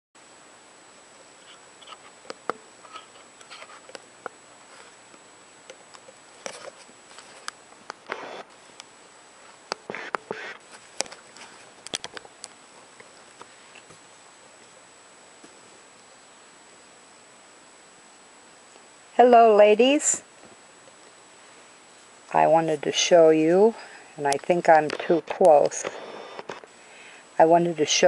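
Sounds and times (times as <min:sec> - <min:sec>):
faint high-pitched whine: 0:00.2 - 0:28.0.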